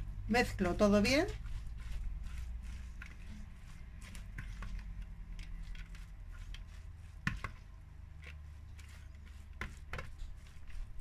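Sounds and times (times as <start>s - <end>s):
wet salad squishing: 1.3s - 11.0s.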